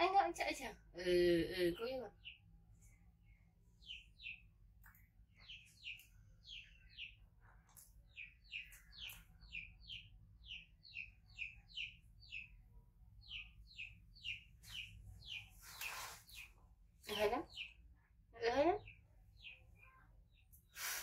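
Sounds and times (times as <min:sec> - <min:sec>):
bird chirping: 0:01.4 - 0:21.0.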